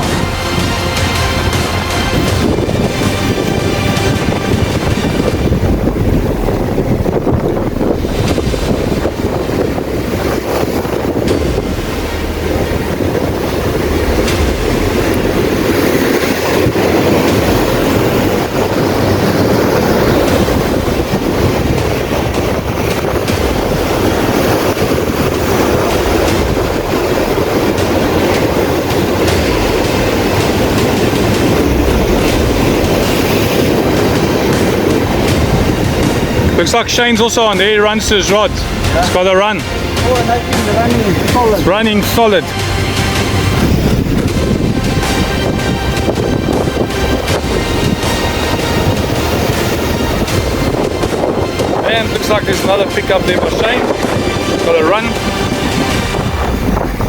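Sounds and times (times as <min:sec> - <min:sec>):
strong wind on microphone: 0:00.0 - 0:57.0.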